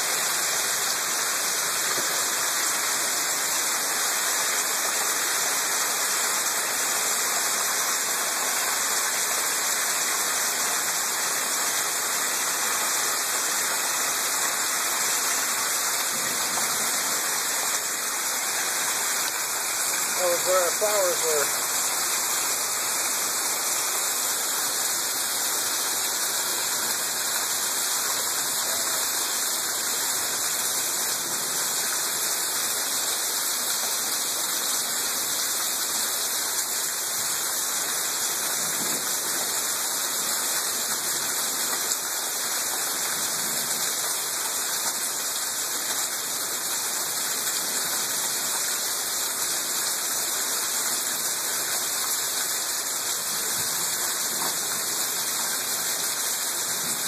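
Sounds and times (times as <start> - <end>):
hail falling: 0.1 - 57.0.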